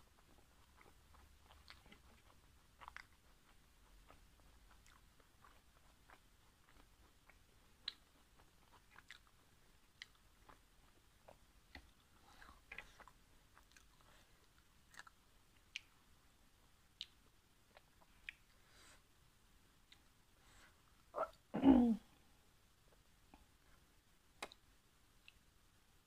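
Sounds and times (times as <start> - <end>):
faint chewing: 0.0 - 19.1, 19.8 - 21.5, 22.8 - 25.5.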